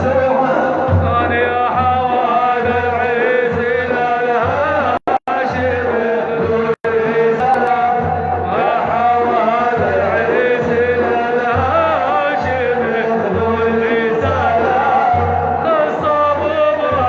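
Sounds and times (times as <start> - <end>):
man chanting a religious song: 0.0 - 17.0
low beat: 0.9 - 17.0.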